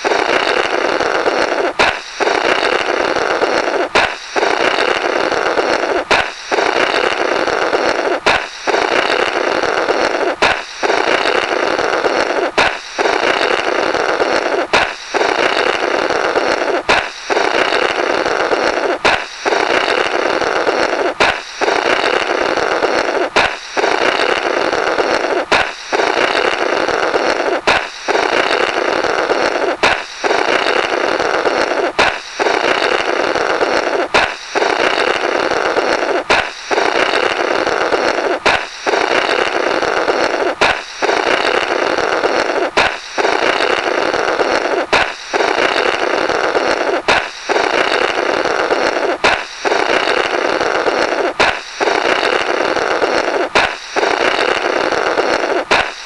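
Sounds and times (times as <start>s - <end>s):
balloon popping: 0.0s - 56.0s
raspy blowing through balloon: 0.0s - 56.0s.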